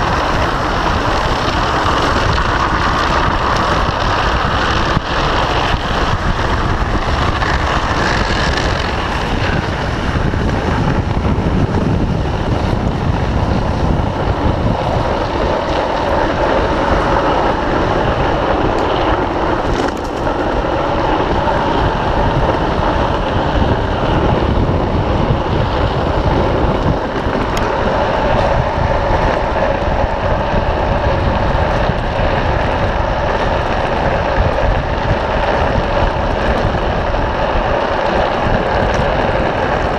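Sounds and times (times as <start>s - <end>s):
wheels scraping on asphalt: 0.0s - 39.9s
wind noise on microphone: 0.0s - 39.9s.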